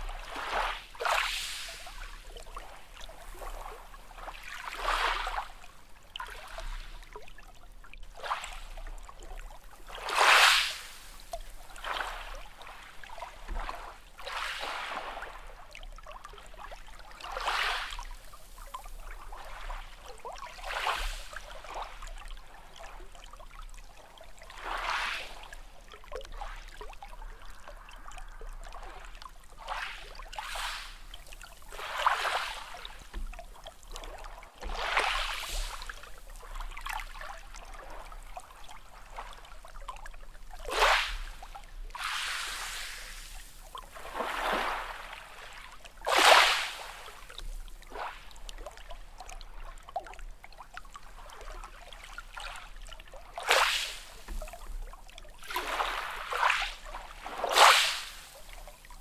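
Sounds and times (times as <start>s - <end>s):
small sea waves washing in: 0.0s - 59.0s.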